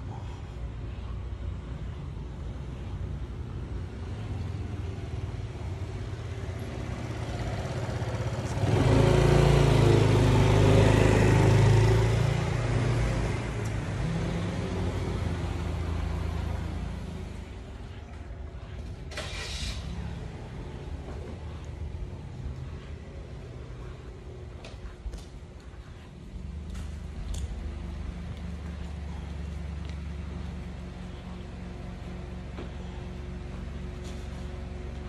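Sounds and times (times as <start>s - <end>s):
steady low rumble: 0.0s - 8.6s, 12.2s - 35.0s
car passing: 0.0s - 35.0s.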